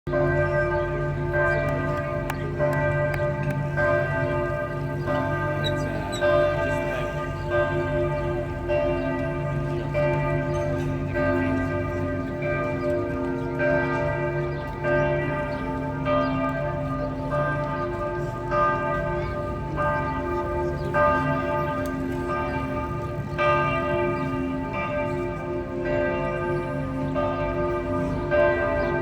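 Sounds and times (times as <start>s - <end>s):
church bells pealing: 0.1s - 29.0s.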